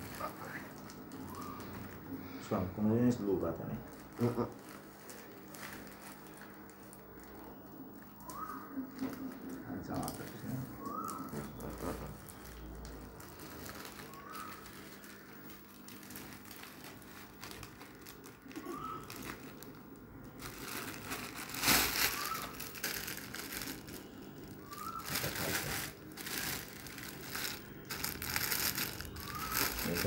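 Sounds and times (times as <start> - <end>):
plastic packaging crinkling: 0.0 - 30.0.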